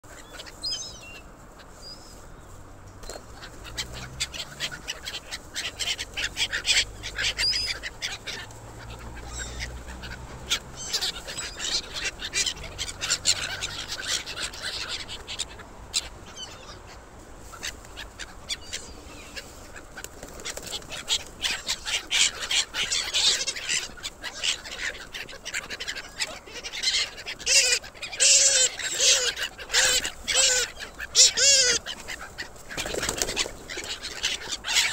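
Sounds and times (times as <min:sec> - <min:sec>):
gulls calling: 0:03.0 - 0:34.9.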